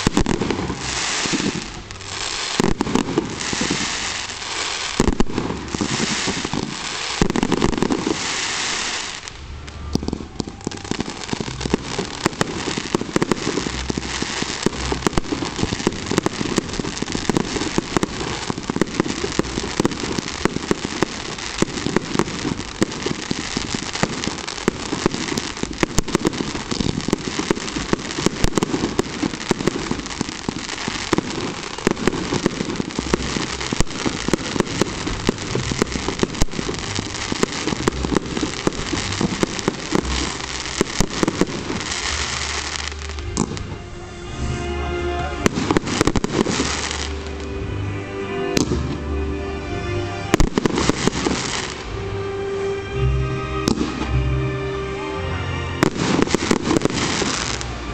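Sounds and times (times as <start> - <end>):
fireworks crackling: 0.0 - 57.9.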